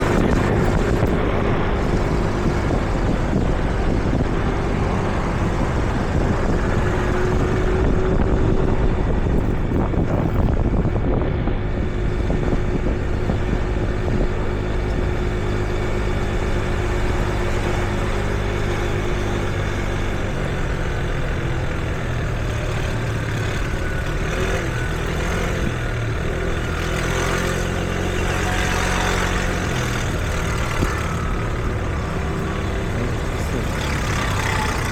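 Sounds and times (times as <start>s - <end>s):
car and truck engines rumbling: 0.0s - 34.9s
engine idling: 0.0s - 34.9s.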